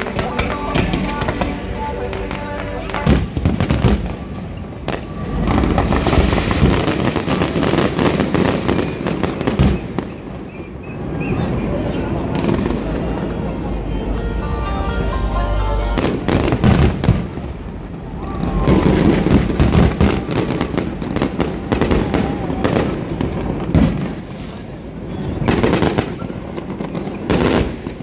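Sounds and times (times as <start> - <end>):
fireworks bangs: 0.0 - 13.8, 16.0 - 28.0
fireworks crackling: 0.0 - 28.0.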